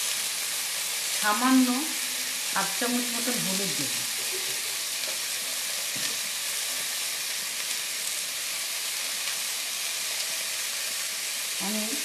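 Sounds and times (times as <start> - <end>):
beans sizzling in hot oil: 0.0 - 12.0.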